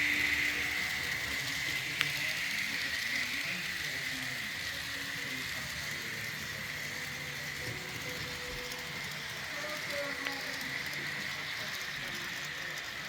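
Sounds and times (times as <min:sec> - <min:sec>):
model locomotives whirring: 0:00.0 - 0:13.0.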